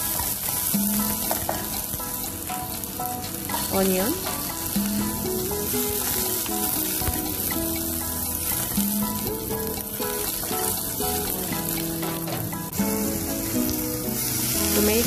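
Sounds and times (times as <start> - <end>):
background music: 0.0 - 15.0
food sizzling in hot oil: 0.0 - 15.0.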